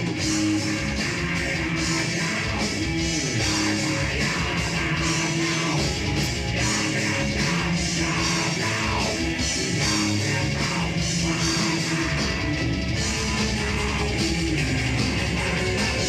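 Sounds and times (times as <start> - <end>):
bass guitar: 0.0 - 16.0
distorted electric guitars: 0.0 - 16.0
pounding drum kit: 0.0 - 16.0.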